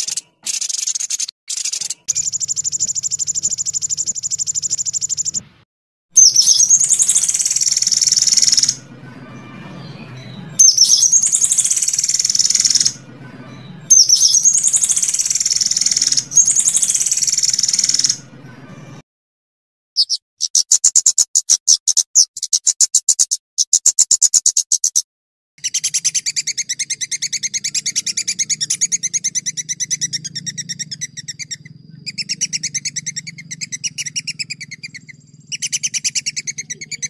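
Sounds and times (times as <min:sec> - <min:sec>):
songbird trilling: 0:00.0 - 0:05.4, 0:06.2 - 0:18.3, 0:20.0 - 0:25.0, 0:25.6 - 0:37.0.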